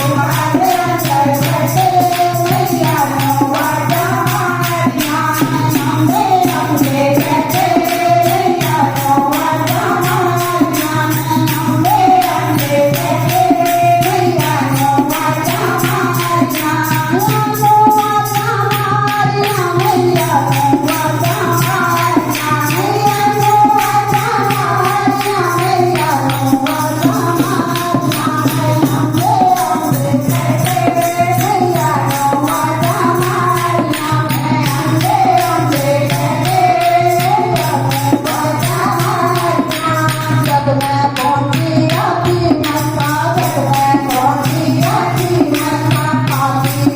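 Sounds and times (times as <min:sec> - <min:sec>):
jingling hand percussion: 0:00.0 - 0:46.9
voices singing devotional song: 0:00.0 - 0:46.9.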